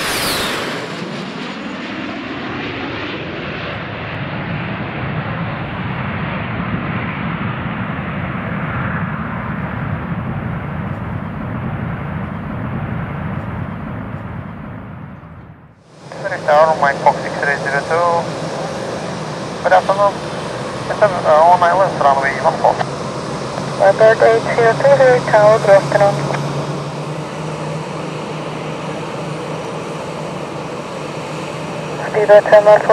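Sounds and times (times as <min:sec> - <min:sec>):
jet airliner passing: 0:00.0 - 0:32.9.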